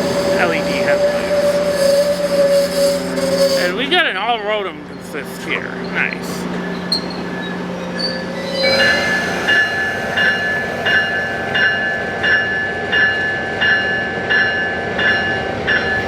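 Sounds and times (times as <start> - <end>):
train bell ringing: 0.0 - 3.9, 6.1 - 16.0.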